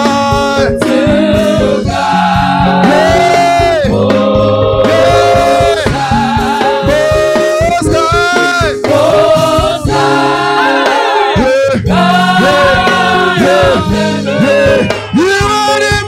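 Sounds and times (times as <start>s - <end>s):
choir singing gospel song: 0.0s - 16.0s
steady beat: 0.0s - 16.0s.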